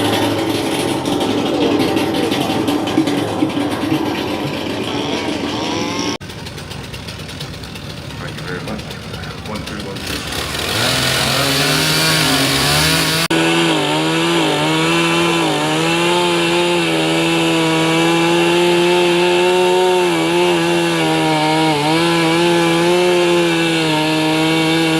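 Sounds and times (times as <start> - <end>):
circular saw cutting timber: 0.0 - 24.9.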